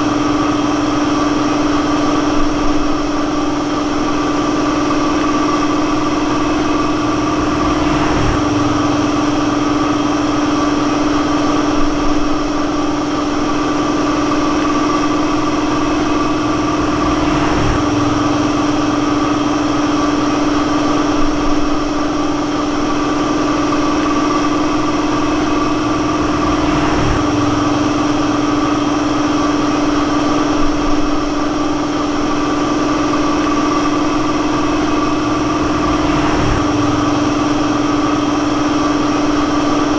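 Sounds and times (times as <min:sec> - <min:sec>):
steady mechanical drone: 0:00.0 - 0:39.9.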